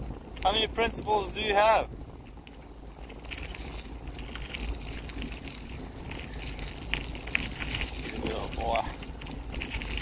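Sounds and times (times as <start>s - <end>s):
bicycle tyres rolling on asphalt: 0.0s - 10.0s
light ticks and rattles: 0.0s - 10.0s
wind rumble on microphone: 0.0s - 10.0s.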